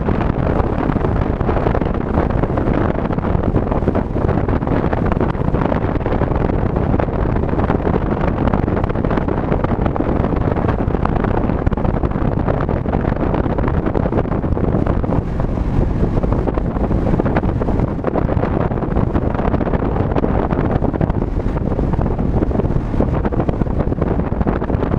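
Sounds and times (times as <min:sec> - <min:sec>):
road and wind noise: 0:00.0 - 0:24.9.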